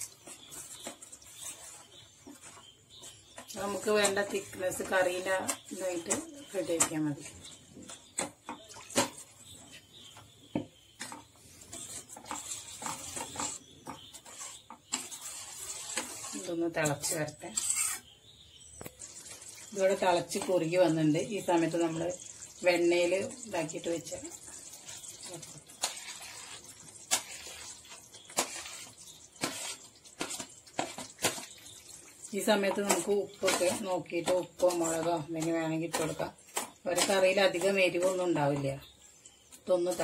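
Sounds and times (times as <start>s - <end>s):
metal spoon scraping a pot: 0.0s - 10.0s, 11.0s - 18.2s, 24.0s - 39.0s.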